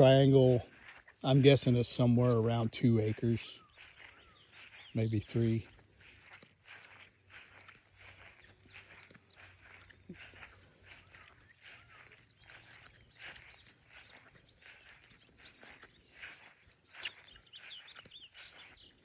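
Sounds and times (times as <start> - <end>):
footsteps through grass: 0.0 - 19.0.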